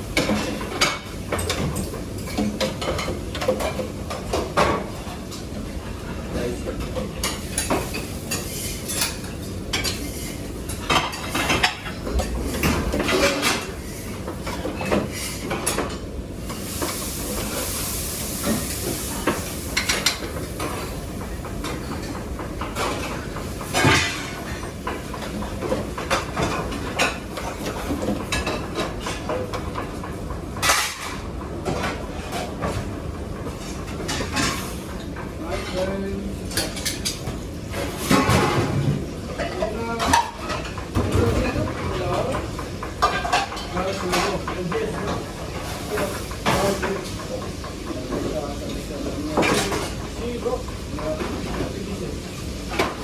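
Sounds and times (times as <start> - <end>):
pots and utensils clattering: 0.0 - 53.0.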